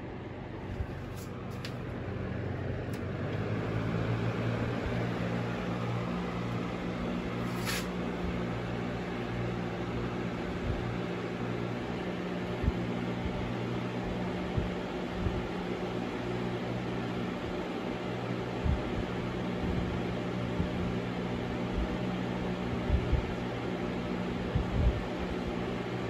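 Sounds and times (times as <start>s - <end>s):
box fan running: 0.0s - 26.0s.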